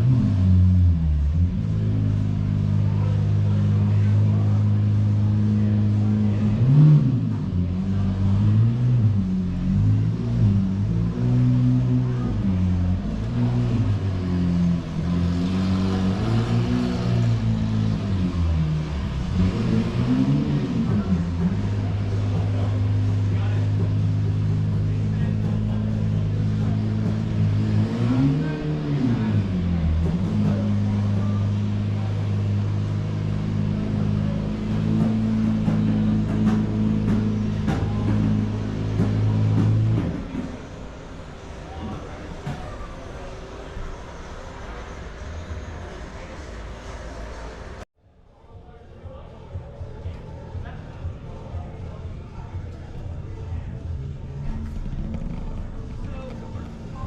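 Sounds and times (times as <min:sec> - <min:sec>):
car engines running: 0:00.0 - 0:57.0.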